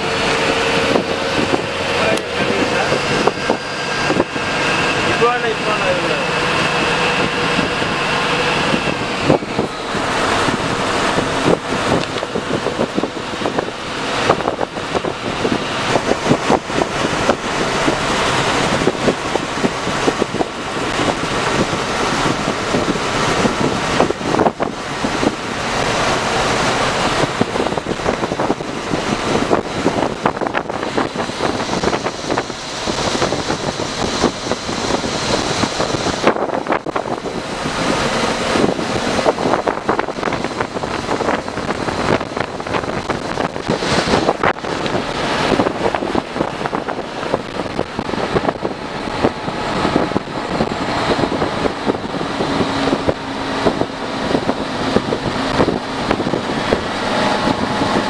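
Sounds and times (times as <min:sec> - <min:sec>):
bus engine: 0:00.0 - 0:58.0
road noise: 0:00.0 - 0:58.0
wind on microphone: 0:00.0 - 0:58.0.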